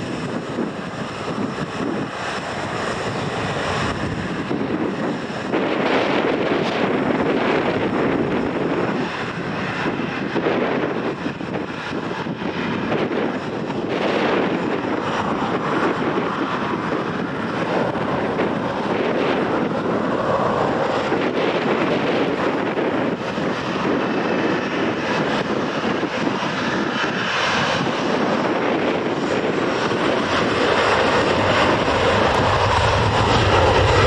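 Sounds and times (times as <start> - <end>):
jet engines running: 0.0 - 34.0
wind buffeting microphone: 0.0 - 34.0.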